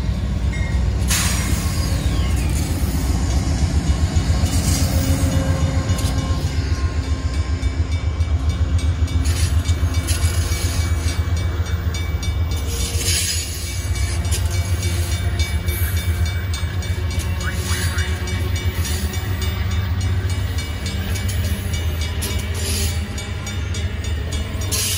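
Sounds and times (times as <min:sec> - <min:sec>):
train rumbling past: 0:00.0 - 0:24.9
wheels clicking on rails: 0:00.0 - 0:24.9.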